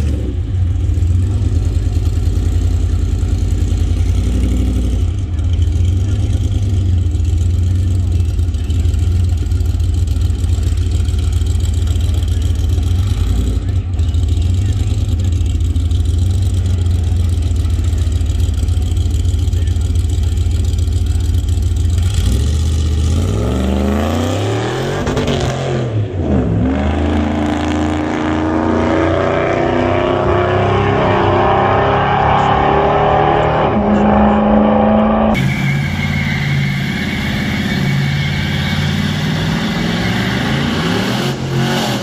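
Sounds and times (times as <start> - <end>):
vehicle engine accelerating: 0.0 - 42.0.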